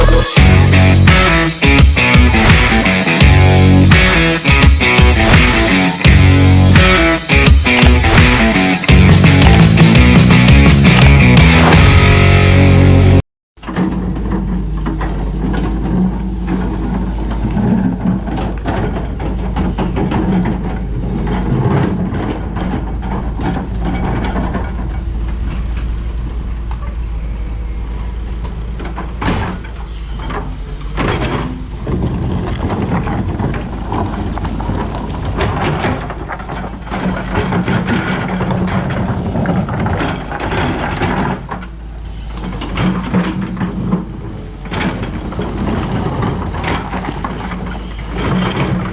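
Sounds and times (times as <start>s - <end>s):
excavator diesel engine running: 0.0s - 13.2s, 14.2s - 48.9s
metallic knocks and clanks: 0.4s - 11.8s, 13.6s - 26.0s, 28.4s - 48.9s.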